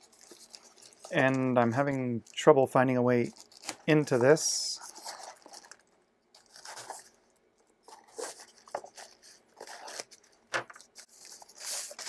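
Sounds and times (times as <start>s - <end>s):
plastic bag crinkling and tearing: 0.0s - 2.4s, 3.2s - 12.0s.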